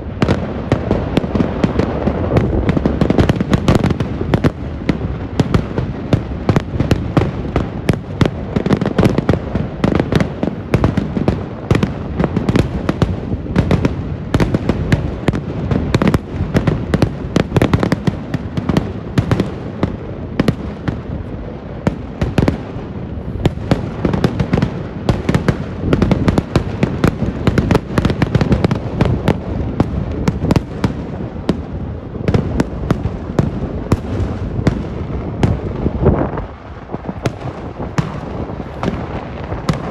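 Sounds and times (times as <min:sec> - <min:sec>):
rapid firecracker bangs: 0:00.0 - 0:39.9.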